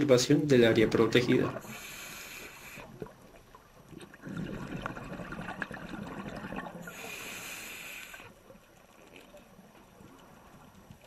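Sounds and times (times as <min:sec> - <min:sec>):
faint steady hiss: 0:00.0 - 0:11.0
water gurgling and trickling: 0:00.0 - 0:11.0.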